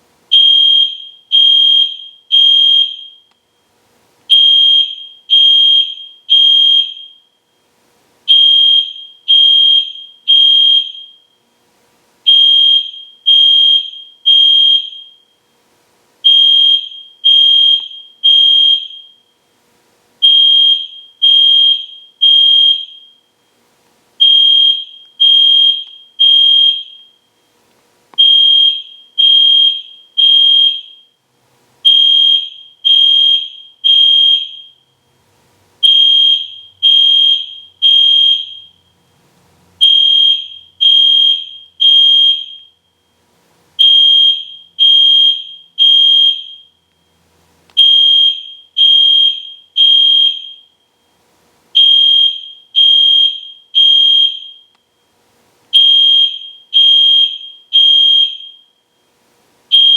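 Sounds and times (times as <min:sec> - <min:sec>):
fire alarm horn beeping: 0:00.3 - 0:03.5, 0:04.3 - 0:07.6, 0:08.3 - 0:11.4, 0:12.2 - 0:15.4, 0:16.2 - 0:19.5, 0:20.2 - 0:23.4, 0:24.2 - 0:27.4, 0:28.2 - 0:31.2, 0:31.8 - 0:35.0, 0:35.8 - 0:39.2, 0:39.8 - 0:43.2, 0:43.8 - 0:47.0, 0:47.8 - 0:51.1, 0:51.8 - 0:55.1, 0:55.7 - 0:59.0.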